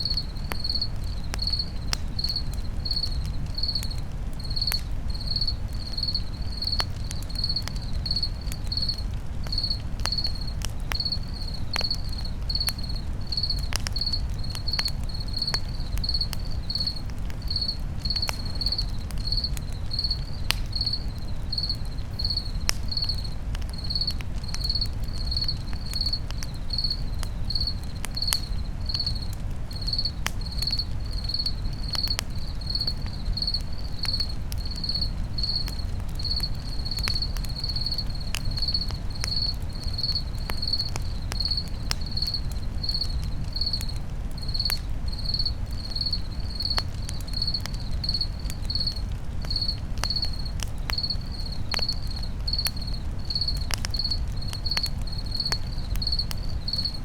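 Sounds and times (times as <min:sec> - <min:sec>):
crackling campfire with pops: 0:00.0 - 0:57.0
cricket chirping: 0:00.0 - 0:57.0.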